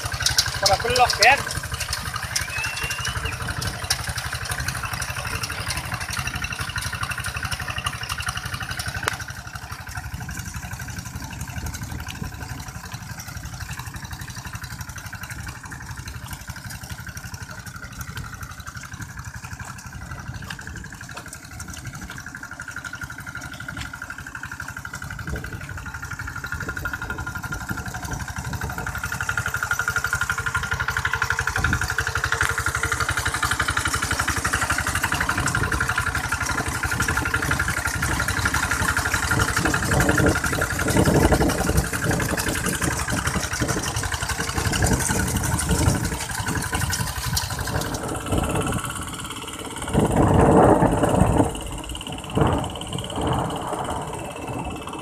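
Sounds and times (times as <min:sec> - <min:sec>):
walking tractor diesel engine: 0:00.0 - 0:55.0.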